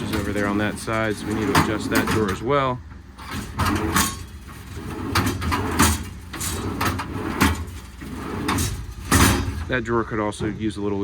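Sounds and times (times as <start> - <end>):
metal drawer scraping: 0.0 - 10.6.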